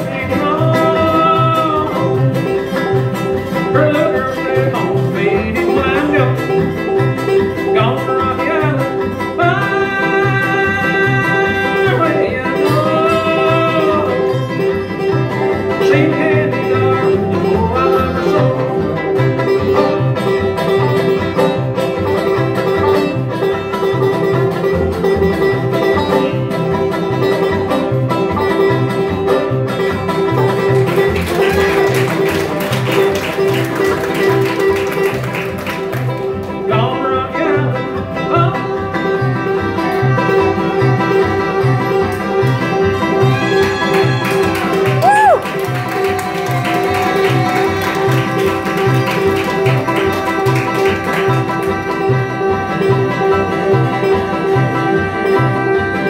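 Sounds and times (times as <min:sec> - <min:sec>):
acoustic guitar: 0:00.0 - 0:56.0
picked banjo: 0:00.0 - 0:56.0
upright bass: 0:00.0 - 0:56.0.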